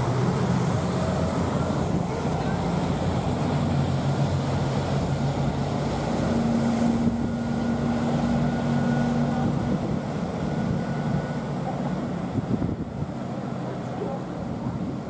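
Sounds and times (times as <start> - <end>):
boat engine droning: 0.0 - 15.0
wind and water hiss: 0.0 - 15.0.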